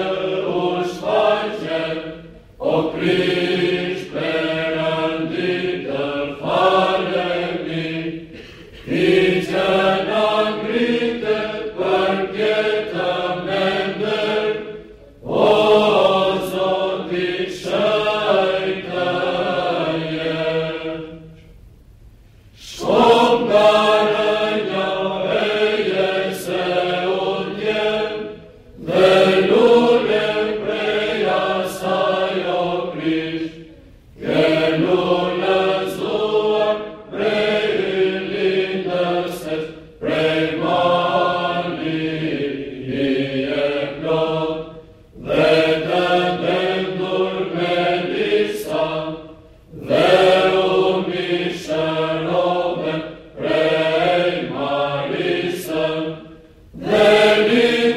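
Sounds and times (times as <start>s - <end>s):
mixed choir chanting unaccompanied: 0.0s - 21.5s, 22.6s - 57.9s.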